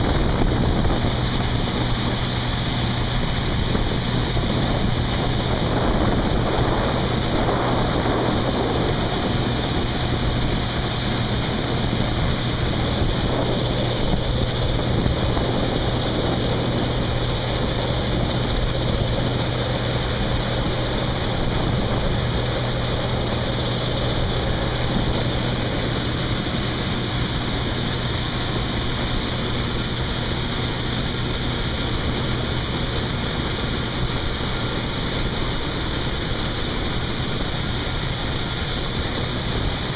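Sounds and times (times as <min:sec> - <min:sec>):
diesel engine hum: 0:00.0 - 0:39.9.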